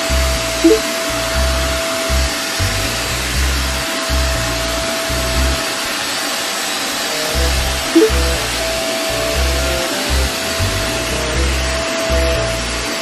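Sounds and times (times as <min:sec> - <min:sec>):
handheld vacuum cleaner running: 0:01.8 - 0:07.8, 0:08.4 - 0:13.0.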